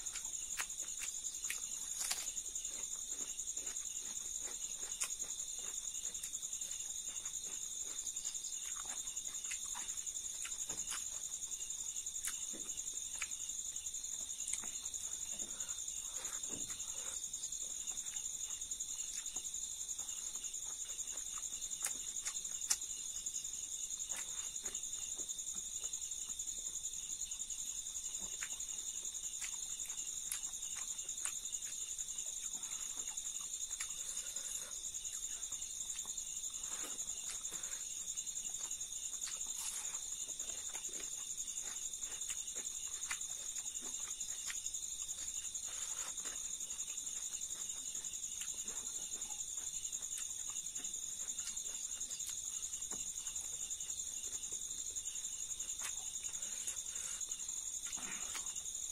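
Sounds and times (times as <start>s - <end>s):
crickets trilling: 0.0s - 58.9s
crunchy chewing: 0.0s - 58.9s.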